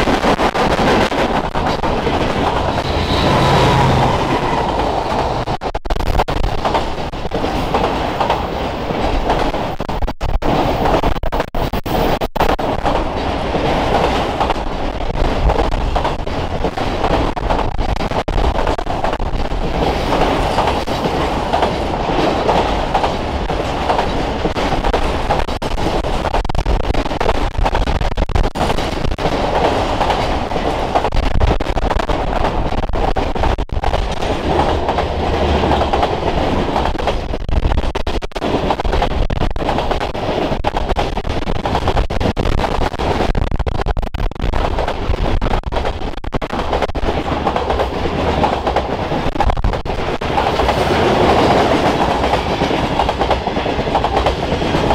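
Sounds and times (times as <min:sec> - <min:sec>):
wheels clacking over rail joints: 0:00.0 - 0:05.6, 0:06.4 - 0:11.1, 0:12.6 - 0:42.4, 0:44.6 - 0:54.9
freight train wheels rumbling: 0:00.0 - 0:44.0, 0:44.6 - 0:54.9.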